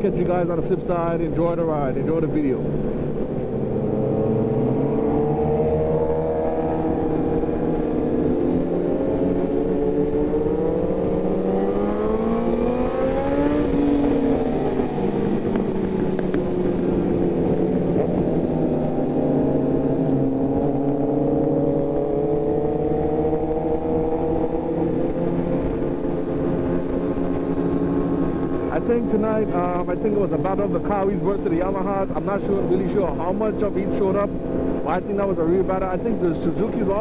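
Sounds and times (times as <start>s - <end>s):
motorcycle engine accelerating: 2.7s - 37.0s.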